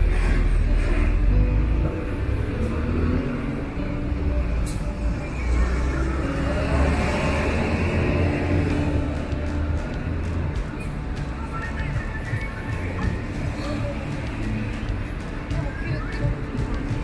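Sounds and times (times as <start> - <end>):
street noise: 0.0 - 17.0
vehicle engine rumbling: 0.0 - 17.0.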